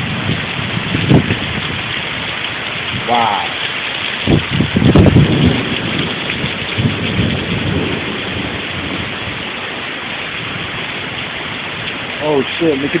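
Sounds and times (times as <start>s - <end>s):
heavy rain pouring: 0.0s - 13.0s
thunder rumbling: 0.0s - 13.0s.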